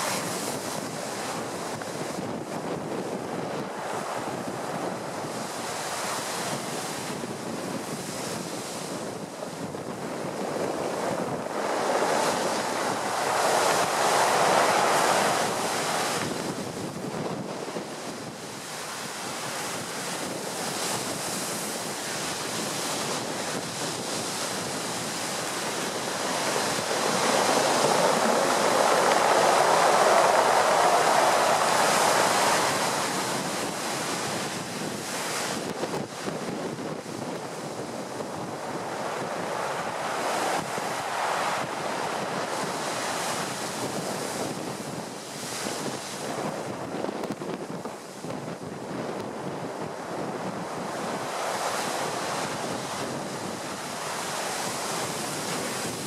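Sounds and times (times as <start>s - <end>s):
storm surf crashing: 0.0s - 56.0s
wind buffeting microphone: 0.0s - 56.0s.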